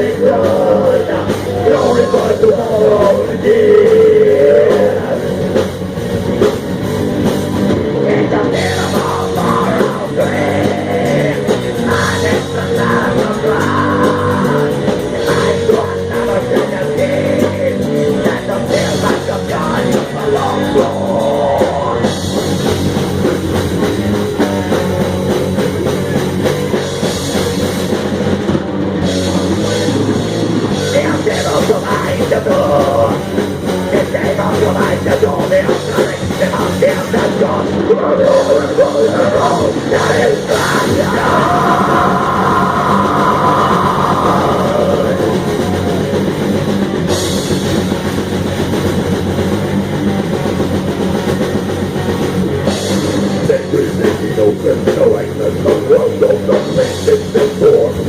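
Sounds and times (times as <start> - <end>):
bass guitar: 0.0 - 58.0
distorted electric guitars: 0.0 - 58.0
fast drumming on drum kit: 0.0 - 58.0
metal band playing: 0.0 - 58.0.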